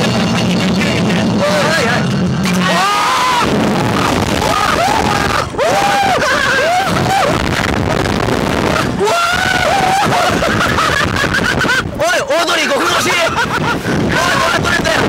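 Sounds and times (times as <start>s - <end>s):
wind rushing on microphone: 0.0s - 15.0s
men screaming and yelling: 0.6s - 15.0s.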